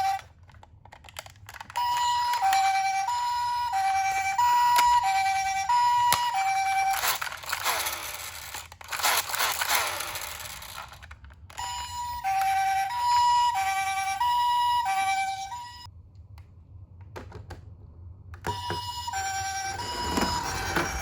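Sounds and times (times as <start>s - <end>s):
toy two-tone siren: 0.0s - 0.3s, 1.6s - 15.9s, 18.5s - 21.0s.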